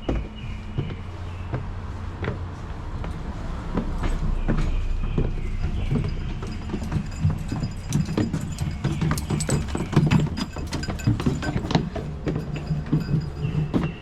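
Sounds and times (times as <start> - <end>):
hard footsteps: 0.0 - 14.0.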